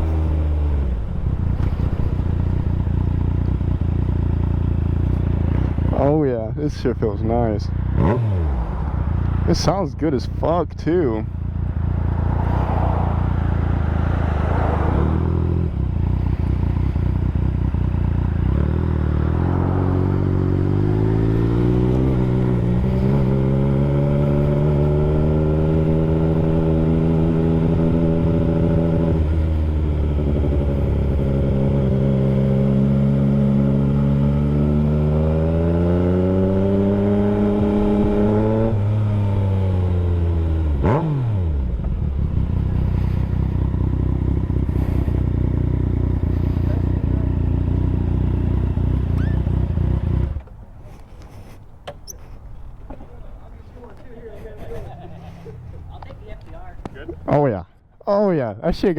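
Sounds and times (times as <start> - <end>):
motorcycle engine revving: 0.0 - 57.4.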